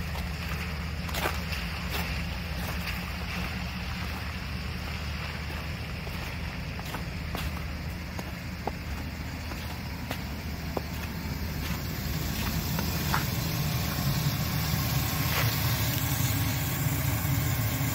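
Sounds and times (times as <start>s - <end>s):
pickup engine idling: 0.0s - 17.9s.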